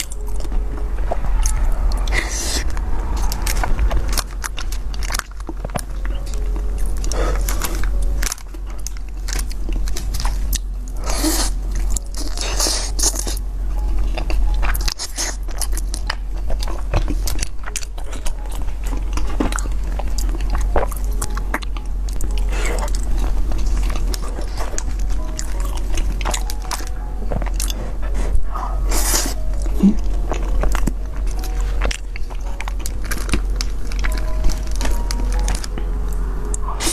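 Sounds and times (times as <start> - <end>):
crunching and chewing: 0.0 - 36.9
steady low hum: 0.0 - 36.9.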